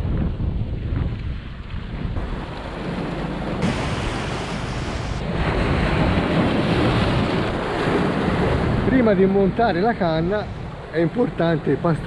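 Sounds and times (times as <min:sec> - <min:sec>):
wind buffeting microphone: 0:00.0 - 0:12.0
waves breaking against rocks: 0:01.0 - 0:12.0.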